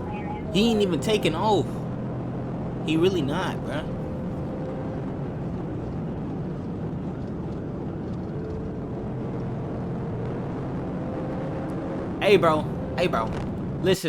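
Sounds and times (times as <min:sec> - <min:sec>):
faint steady hum: 0:00.0 - 0:14.0
road and engine noise in car: 0:00.0 - 0:14.0.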